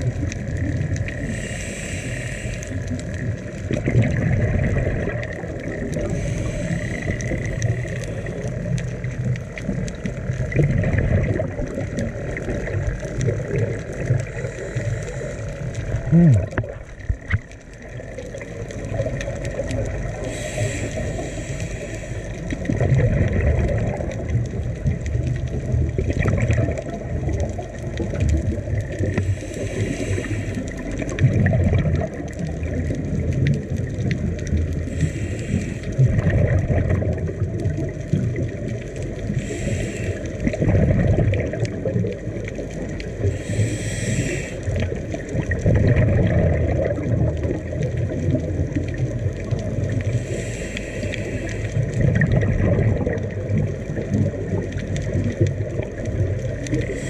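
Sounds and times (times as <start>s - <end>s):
underwater low rushing: 0.0s - 57.0s.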